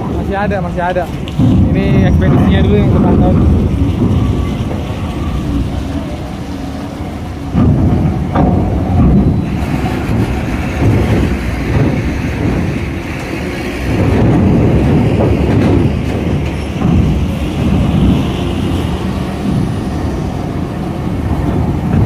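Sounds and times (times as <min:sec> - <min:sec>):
diesel truck engines running: 0:00.0 - 0:22.0
wheels clanking on metal plates: 0:00.0 - 0:22.0.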